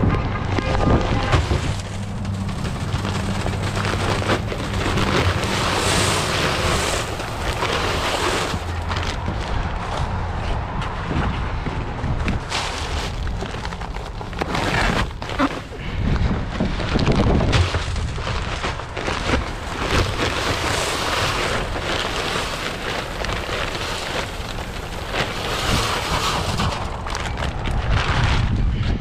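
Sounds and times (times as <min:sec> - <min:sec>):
plastic bags crinkling: 0:00.0 - 0:10.3, 0:12.3 - 0:28.5
low wind rumble on microphone: 0:00.0 - 0:29.0.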